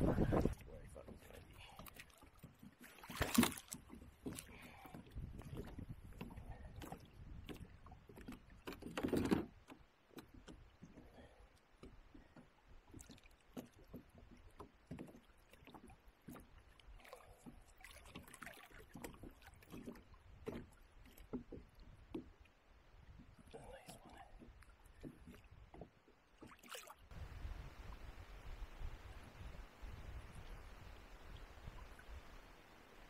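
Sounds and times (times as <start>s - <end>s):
small water splashes: 0.2s - 28.2s, 30.2s - 33.0s.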